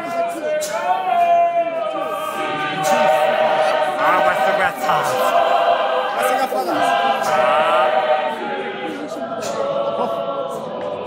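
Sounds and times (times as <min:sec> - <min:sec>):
congregation singing unaccompanied: 0:00.0 - 0:11.0.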